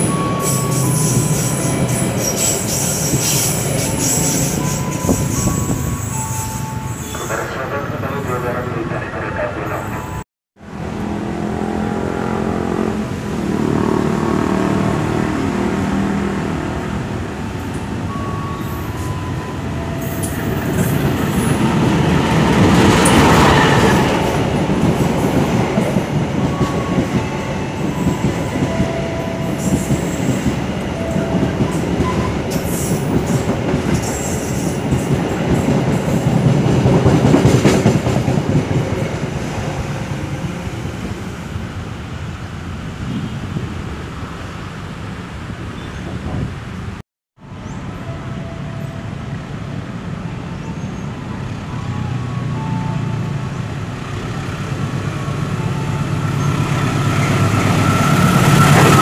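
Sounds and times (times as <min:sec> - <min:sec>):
passenger train passing: 0:00.0 - 0:59.0.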